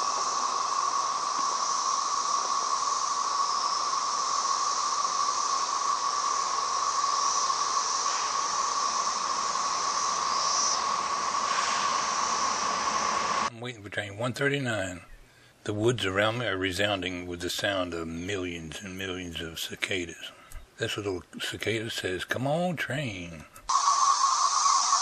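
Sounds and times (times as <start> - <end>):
cicadas droning: 0.0 - 22.3, 23.0 - 25.0.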